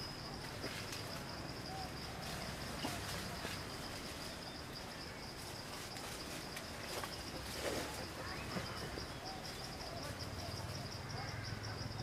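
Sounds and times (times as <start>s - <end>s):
forest ambience: 0.0s - 12.0s
insects droning: 0.0s - 12.0s.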